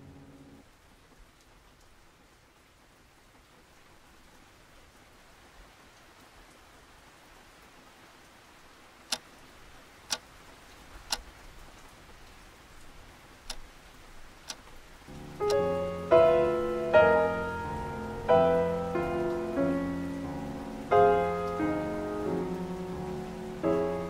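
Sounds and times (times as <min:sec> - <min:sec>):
faint rain hiss: 0:00.0 - 0:24.0.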